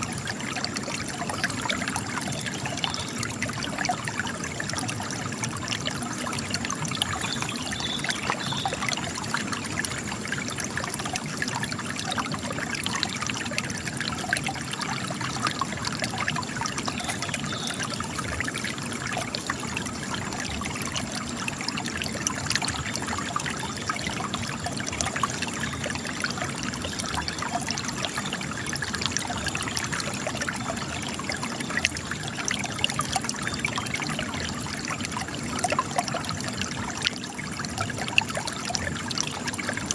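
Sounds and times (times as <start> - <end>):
water splashes and drips: 0.0 - 39.9
water trickling over rock: 0.0 - 39.9.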